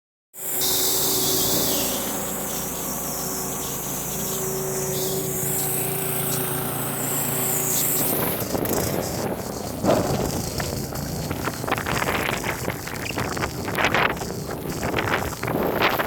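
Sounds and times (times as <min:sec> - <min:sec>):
machinery hum: 0:00.4 - 0:16.0.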